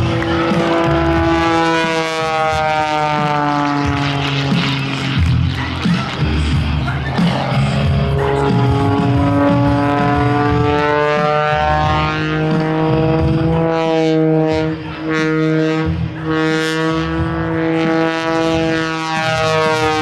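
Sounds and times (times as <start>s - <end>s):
biplane engine and propeller drone: 0.0s - 20.0s.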